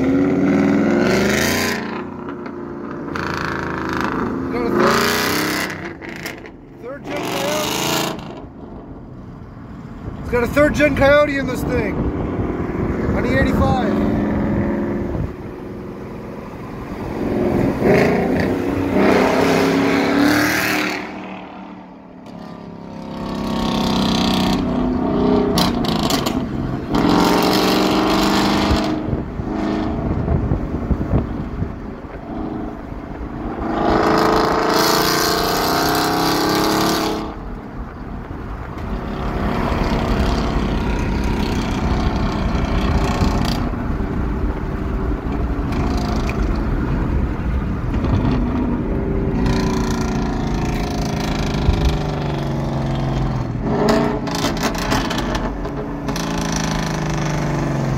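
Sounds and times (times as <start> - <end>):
road noise: 0.0 - 57.9
car engine accelerating hard: 10.2 - 57.9.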